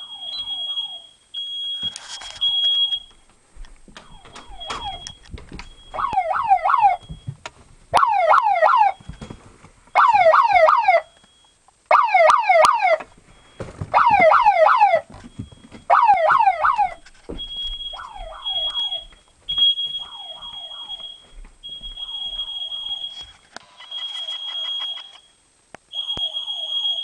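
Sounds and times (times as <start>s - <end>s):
alarm siren whoops: 0.0s - 3.1s, 4.0s - 7.3s, 7.9s - 9.3s, 10.0s - 11.2s, 11.9s - 13.2s, 13.9s - 25.2s, 25.9s - 27.0s
smoke alarm tone pulsing: 0.0s - 27.0s.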